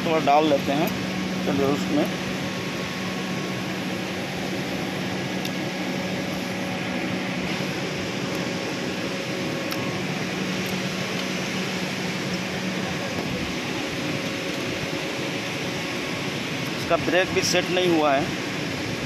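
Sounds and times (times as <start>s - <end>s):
industrial machinery drone: 0.0s - 19.0s.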